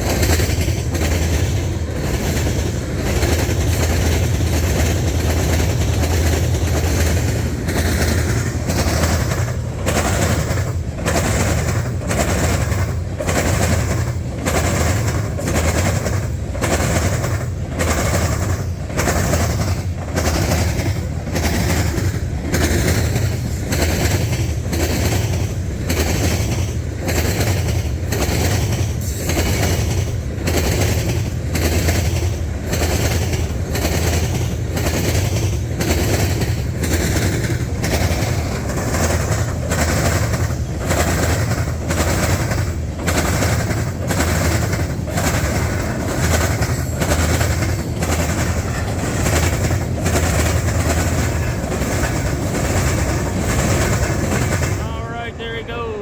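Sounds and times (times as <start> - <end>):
train wheels clicking over rail joints: 0.0 - 55.8
freight train rumble: 0.0 - 56.0.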